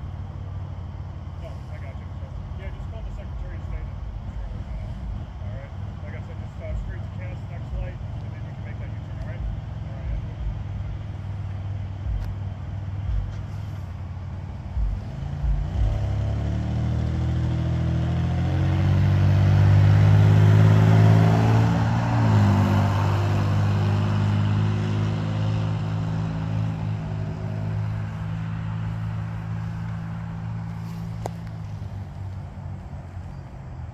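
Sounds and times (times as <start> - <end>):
car driving past: 0.0 - 33.9.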